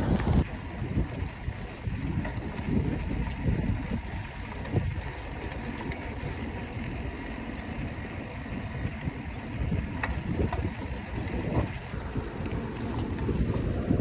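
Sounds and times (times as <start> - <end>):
wind buffeting microphone: 0.0 - 7.1, 7.7 - 14.0
bicycle tyre and road noise: 0.0 - 14.0.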